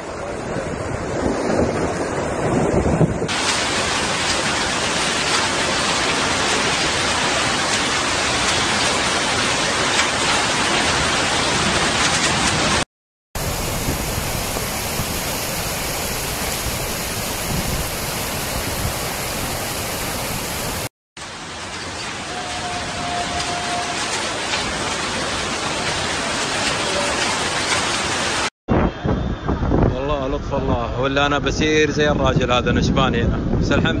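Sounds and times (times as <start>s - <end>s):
floodwater rushing: 0.0s - 12.8s, 13.4s - 28.5s.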